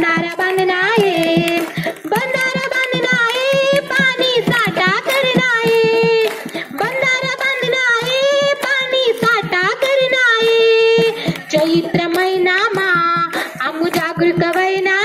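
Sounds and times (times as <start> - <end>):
quick steady drum beat: 0.0 - 15.0.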